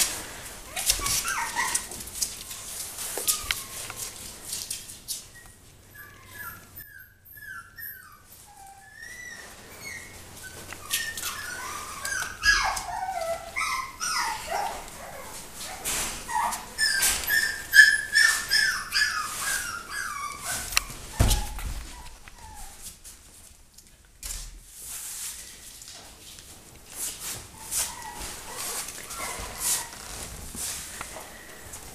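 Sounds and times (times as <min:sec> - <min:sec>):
puppies whimpering and yipping: 0:00.0 - 0:23.0, 0:27.3 - 0:31.9.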